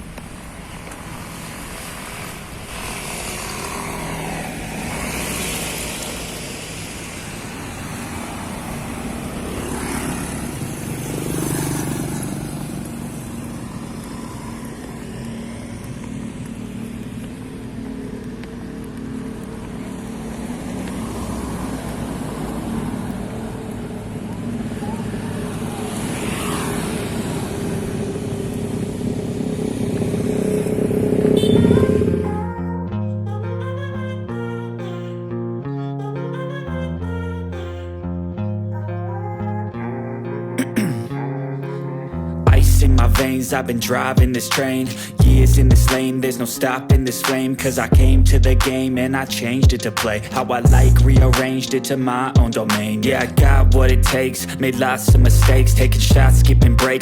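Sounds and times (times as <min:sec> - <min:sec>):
motorcycles passing: 0:00.0 - 0:36.0, 0:36.9 - 0:57.0
cars passing: 0:00.0 - 0:57.0.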